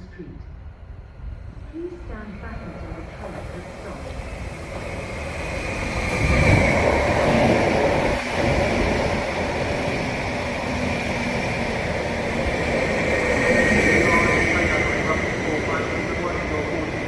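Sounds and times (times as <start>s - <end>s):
train rumbling into platform: 0.0s - 17.0s.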